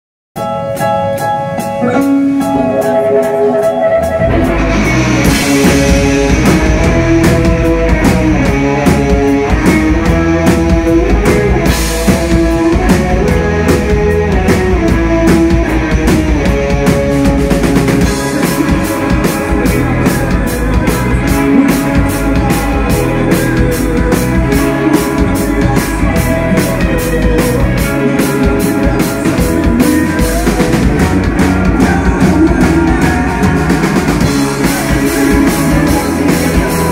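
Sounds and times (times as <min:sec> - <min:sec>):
rock band playing live: 0:00.4 - 0:36.9.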